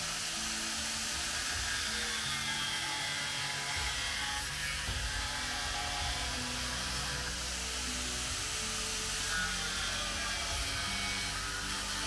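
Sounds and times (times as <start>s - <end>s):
angle grinder whine: 0.0s - 12.0s.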